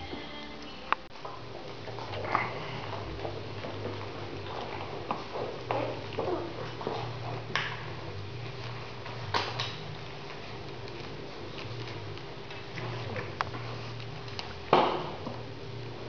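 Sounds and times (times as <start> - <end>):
puppies rustling: 0.0 - 16.0
steady low hum: 0.0 - 16.0.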